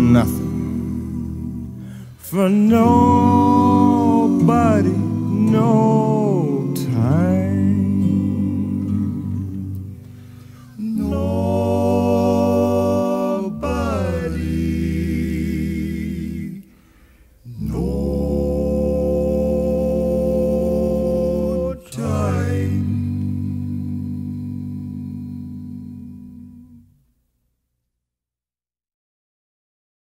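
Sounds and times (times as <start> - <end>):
voices singing held chords: 0.0 - 26.9.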